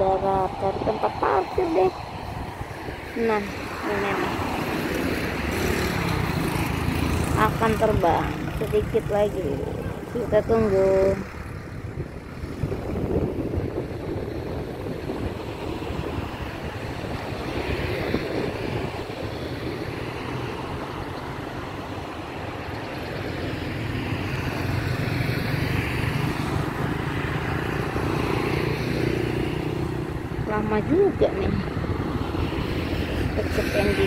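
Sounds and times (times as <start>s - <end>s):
cars passing: 0.0s - 34.0s
motorcycles passing: 0.0s - 34.0s.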